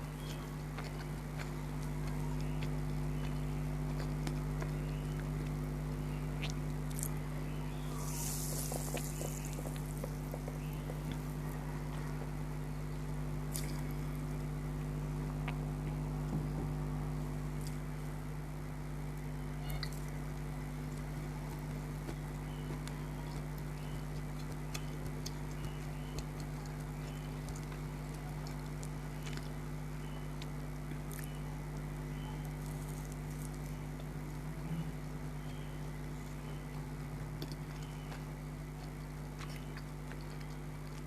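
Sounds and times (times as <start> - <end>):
person chewing and crunching: 0.0 - 16.3, 19.7 - 35.1, 36.7 - 41.0
low electrical hum: 0.0 - 41.0.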